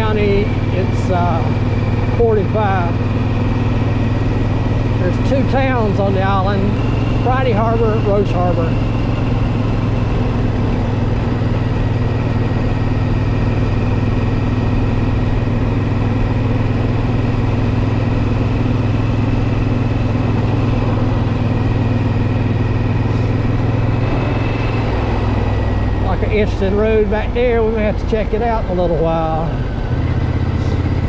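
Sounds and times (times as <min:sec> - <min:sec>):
motorcycle engine cruising: 0:00.0 - 0:31.0
road noise: 0:00.0 - 0:31.0.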